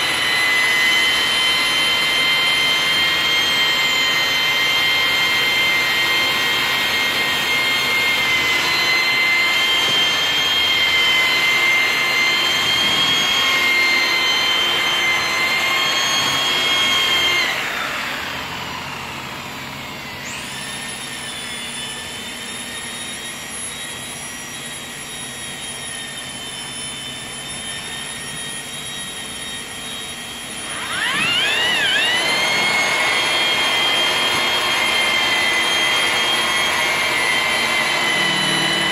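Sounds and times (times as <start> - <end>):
electric polisher whine: 0.0 - 38.9
quieter machine sound: 0.0 - 38.9.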